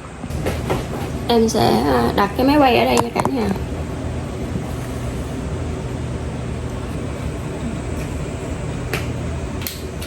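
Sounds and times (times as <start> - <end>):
low hum: 0.0 - 10.0
steady background noise: 0.0 - 10.0.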